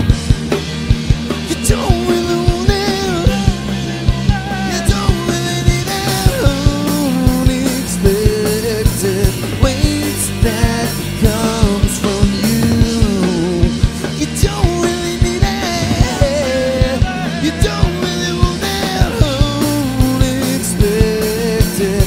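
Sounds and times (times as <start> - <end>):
drum kit beat: 0.0 - 22.0
electric bass: 0.0 - 22.0
electric guitar: 0.0 - 22.0.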